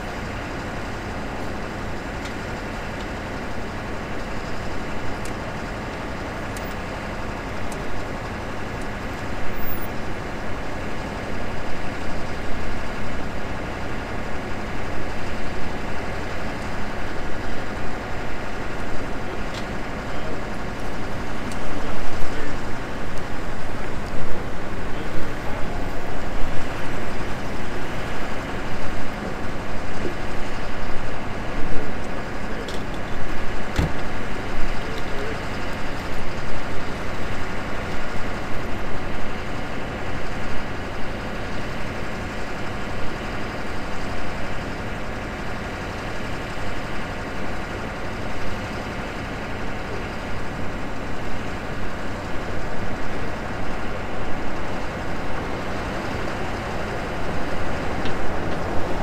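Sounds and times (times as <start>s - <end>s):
street noise: 0.0s - 59.0s
vehicle engine idling: 0.0s - 59.0s.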